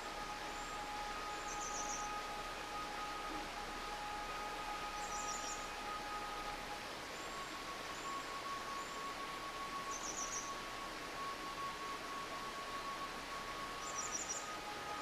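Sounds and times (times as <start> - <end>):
forest stream rushing: 0.0 - 15.0.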